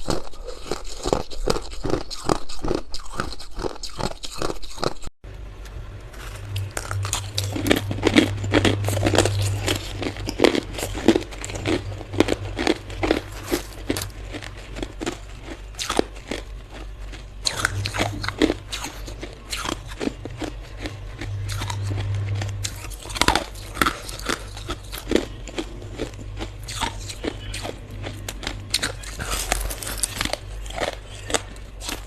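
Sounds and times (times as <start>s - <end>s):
ice crunching while chewed: 0.0s - 5.1s, 6.2s - 32.0s
low steady hum: 5.2s - 32.0s.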